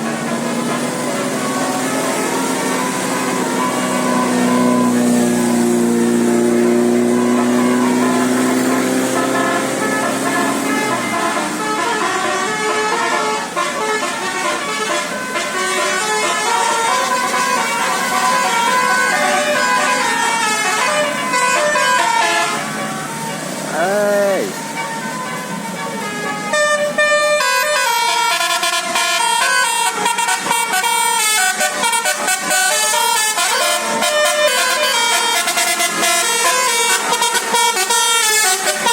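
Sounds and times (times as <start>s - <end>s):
multi-tone bus horn tune: 0.0s - 38.9s.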